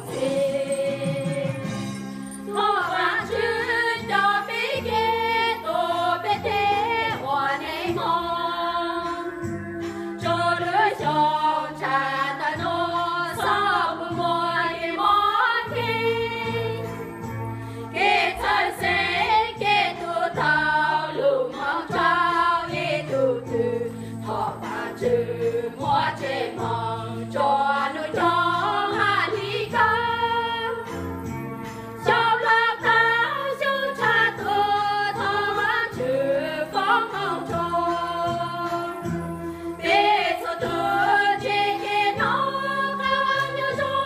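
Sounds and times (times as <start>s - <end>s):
women singing in unison: 0.0s - 1.8s, 2.5s - 9.5s, 10.2s - 17.0s, 17.9s - 31.0s, 32.0s - 39.2s, 39.8s - 44.0s.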